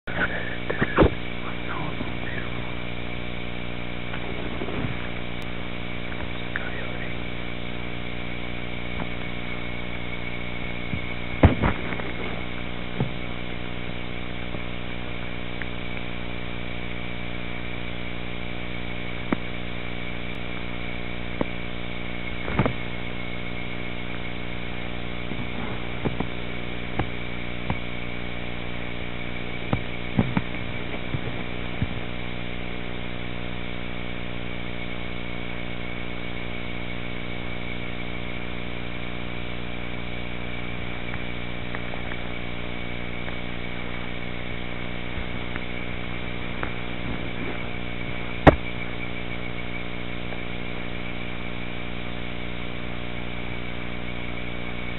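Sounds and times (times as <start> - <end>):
high-pitched whine: 0.0 - 54.9
steady droning hum: 0.0 - 54.9.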